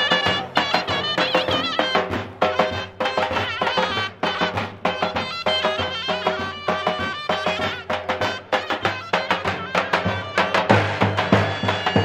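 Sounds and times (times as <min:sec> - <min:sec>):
reed wind instrument melody: 0:00.0 - 0:12.0.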